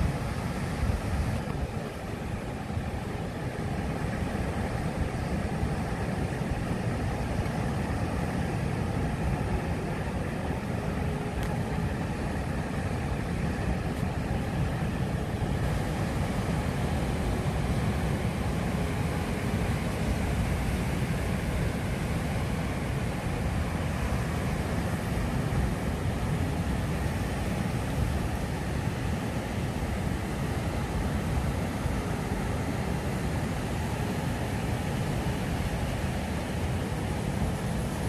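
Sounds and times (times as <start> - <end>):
ocean surf: 0.0 - 38.0.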